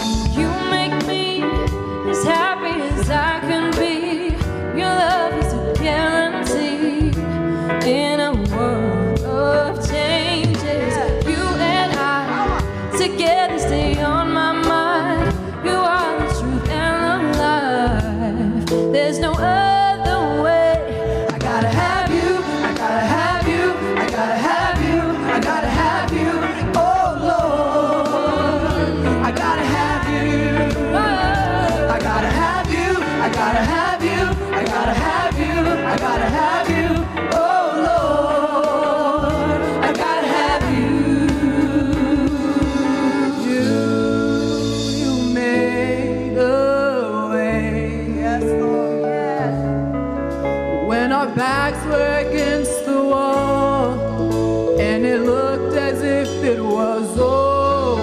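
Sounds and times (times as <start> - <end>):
gospel singing with band: 0.0 - 58.0.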